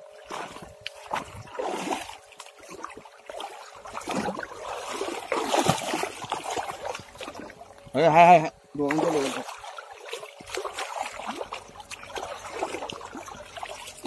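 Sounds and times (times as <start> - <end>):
river water splashing: 0.0 - 7.8, 8.8 - 14.0.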